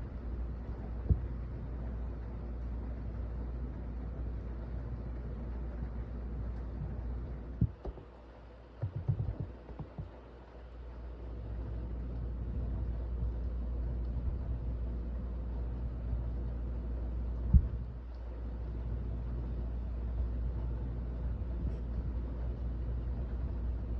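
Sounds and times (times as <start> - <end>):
low background rumble: 0.0 - 23.9.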